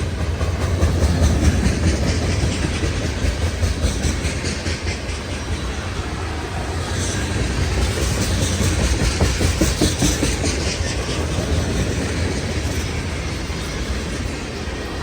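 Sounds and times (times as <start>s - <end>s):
freight train rumbling past: 0.0s - 15.0s
wheels clacking over rail joints: 0.0s - 15.0s.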